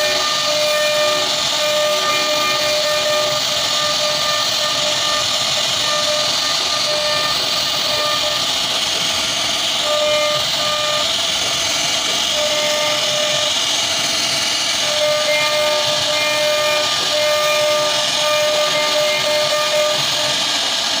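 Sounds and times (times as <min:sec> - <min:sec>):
router spindle cutting wood: 0:00.0 - 0:21.0.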